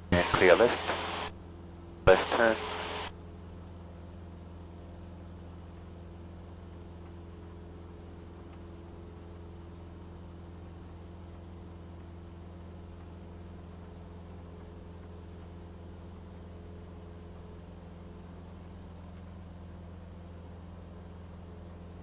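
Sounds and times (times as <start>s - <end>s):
airplane engine and propeller droning: 0.0s - 22.0s.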